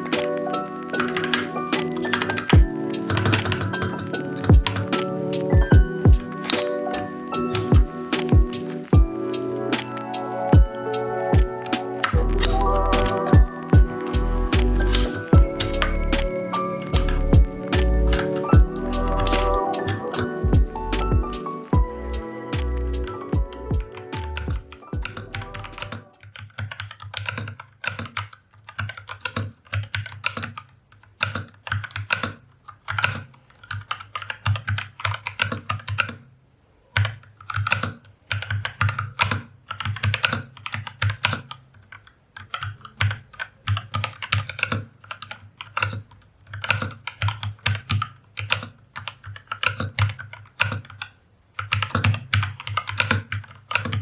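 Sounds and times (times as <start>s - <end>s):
mechanical keyboard typing: 0.0s - 21.9s, 22.5s - 36.3s, 36.9s - 54.0s.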